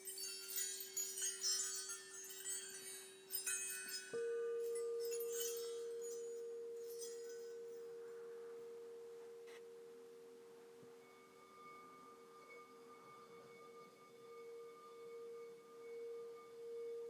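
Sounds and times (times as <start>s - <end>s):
high chime tinkles: 0.0s - 17.0s
higher ringing tones: 0.0s - 17.0s
lower bowl tone: 0.0s - 17.0s
singing bowl ringing: 0.0s - 17.0s.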